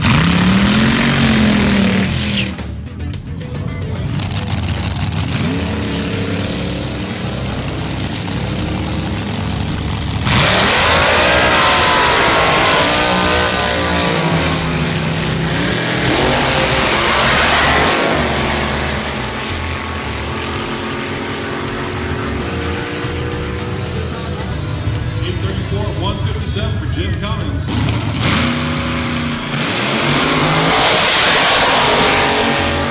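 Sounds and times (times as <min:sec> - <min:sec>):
racing car engines revving: 0:00.0 - 0:32.9.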